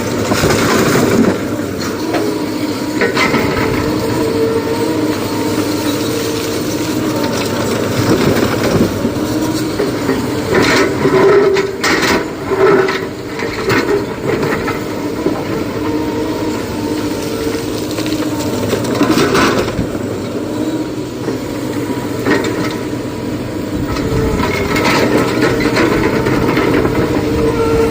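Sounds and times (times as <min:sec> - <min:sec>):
heavy excavator running: 0:00.0 - 0:27.9
hydraulics whining: 0:00.0 - 0:27.9.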